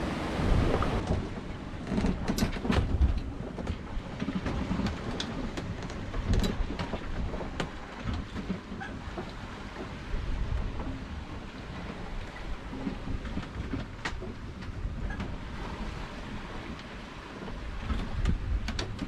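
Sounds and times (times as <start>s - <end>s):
water rumbling along hull: 0.0s - 19.0s
boat knocks and clicks: 0.4s - 19.0s.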